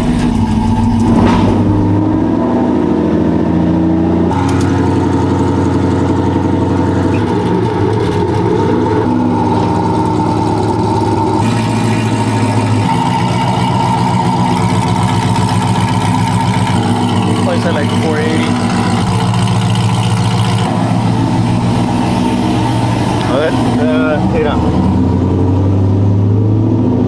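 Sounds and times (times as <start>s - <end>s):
pickup truck engine running: 0.0s - 27.0s.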